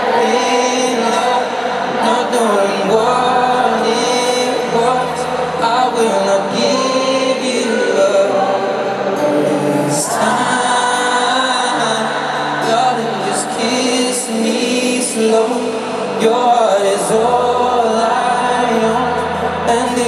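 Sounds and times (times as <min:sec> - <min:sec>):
amplified acoustic guitar ballad: 0:00.0 - 0:20.0
crowd singing along: 0:00.0 - 0:20.0.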